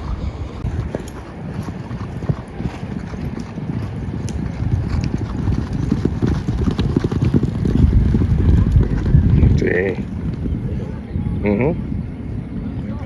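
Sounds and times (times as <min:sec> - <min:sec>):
horse hoofbeats galloping: 0:00.0 - 0:10.8.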